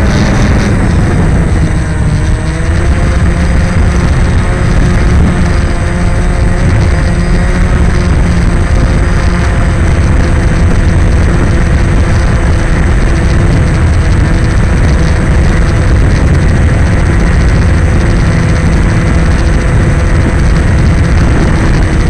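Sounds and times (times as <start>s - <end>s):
drone propellers droning: 0.0s - 22.0s
heavy low rumble: 0.0s - 22.0s.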